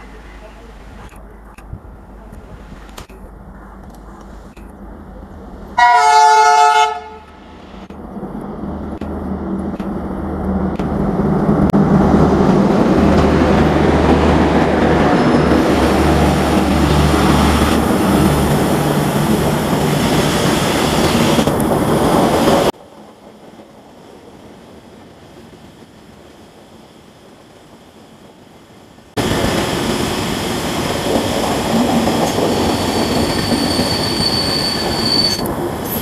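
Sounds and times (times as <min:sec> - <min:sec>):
diesel locomotive engine drone: 0:00.0 - 0:36.0
train wheel rumble: 0:00.0 - 0:36.0.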